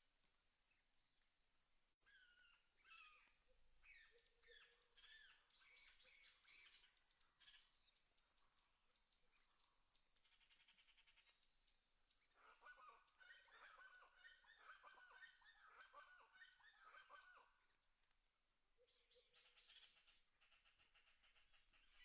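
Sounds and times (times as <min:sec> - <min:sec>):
faint high chirping: 0:00.0 - 0:11.4, 0:12.2 - 0:22.0.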